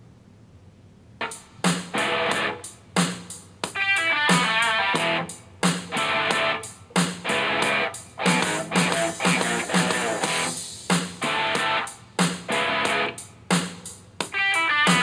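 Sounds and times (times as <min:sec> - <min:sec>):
guitar song through speaker: 0:01.2 - 0:13.5, 0:14.2 - 0:15.0.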